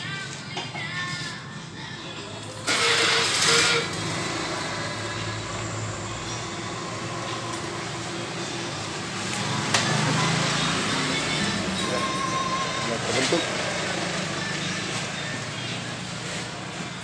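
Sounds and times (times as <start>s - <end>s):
steady mechanical noise: 0.0s - 17.0s.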